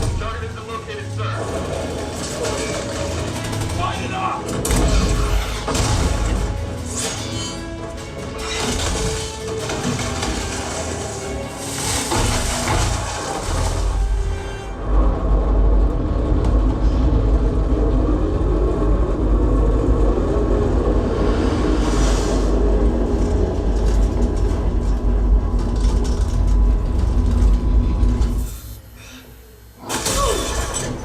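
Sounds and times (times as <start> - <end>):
heavy machinery rumble: 0.0 - 31.0.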